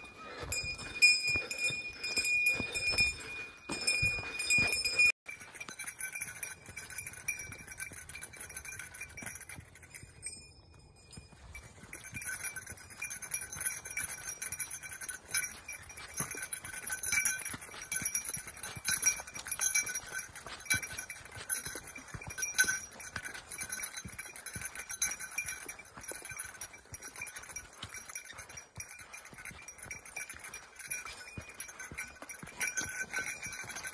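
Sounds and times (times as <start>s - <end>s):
small bell jingling: 0.0s - 33.9s.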